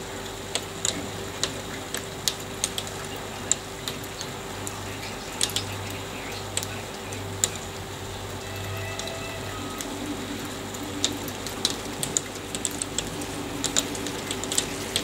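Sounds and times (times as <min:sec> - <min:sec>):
faint low hum: 0:00.0 - 0:15.0
hailstones ticking on hard surface: 0:00.0 - 0:15.0
steady hiss: 0:00.0 - 0:15.0.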